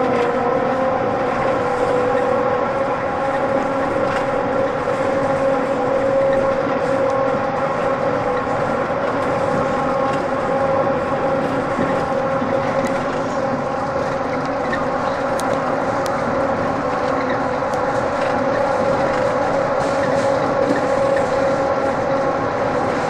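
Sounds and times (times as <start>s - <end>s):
train ride rumble: 0.0s - 23.0s
train whine: 0.0s - 23.0s.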